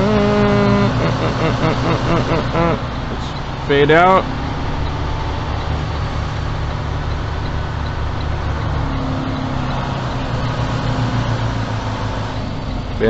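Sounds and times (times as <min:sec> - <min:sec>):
diesel truck engine drone: 0:00.0 - 0:13.0.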